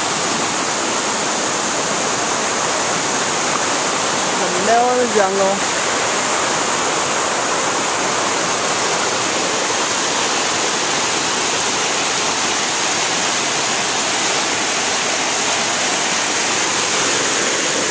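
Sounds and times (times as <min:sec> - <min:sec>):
waterfall rushing over rocks: 0:00.0 - 0:17.9.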